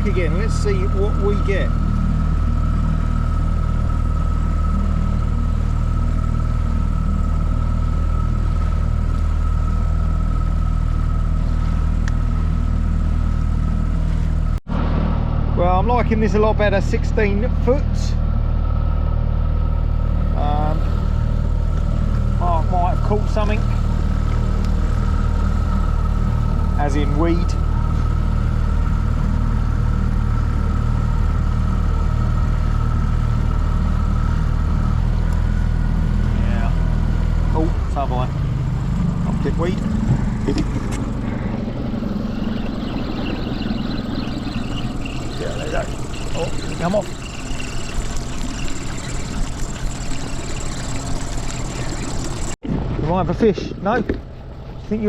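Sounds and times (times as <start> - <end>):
high whine: 0.0 - 52.6
outboard motor droning: 0.0 - 52.6.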